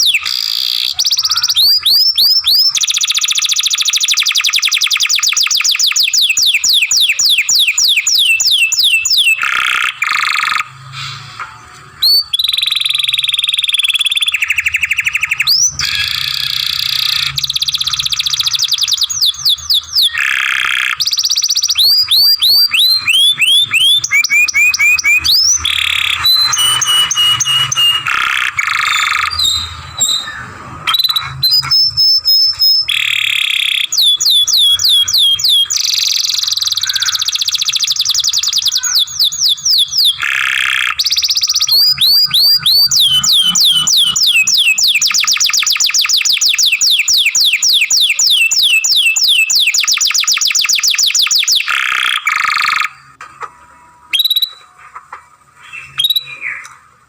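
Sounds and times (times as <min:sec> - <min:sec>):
canary singing trills: 0:00.0 - 0:11.3, 0:11.9 - 0:54.8.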